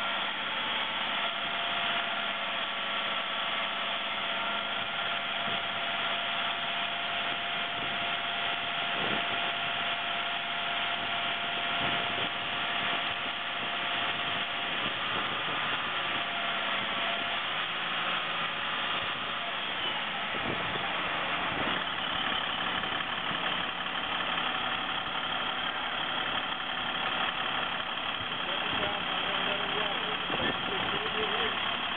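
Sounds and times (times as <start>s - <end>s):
diesel truck engine running: 0.0s - 31.9s.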